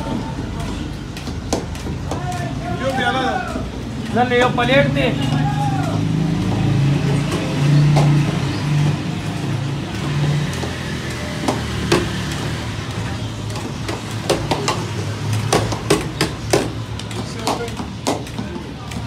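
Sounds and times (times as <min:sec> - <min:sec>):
street traffic hum: 0:00.0 - 0:19.0.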